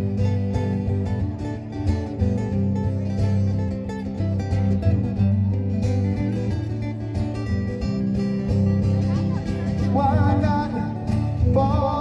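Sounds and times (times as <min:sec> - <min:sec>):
bass line: 0:00.0 - 0:12.0
guitar: 0:00.0 - 0:12.0.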